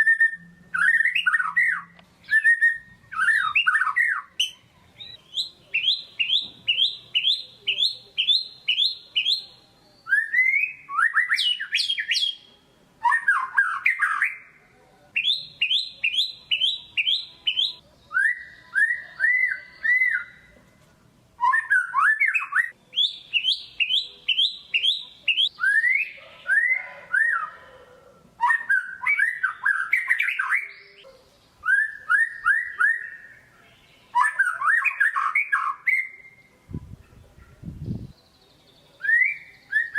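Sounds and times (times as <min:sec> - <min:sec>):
songbird whistling and rattling song: 0:00.0 - 0:14.5, 0:15.2 - 0:20.5, 0:21.4 - 0:27.6, 0:28.4 - 0:33.5, 0:34.1 - 0:39.9.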